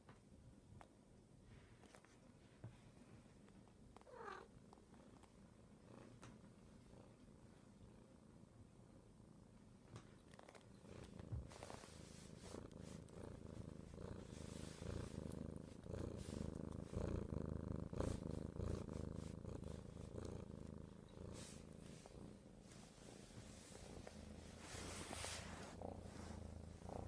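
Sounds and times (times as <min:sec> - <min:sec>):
cat purring: 0:01.5 - 0:27.0.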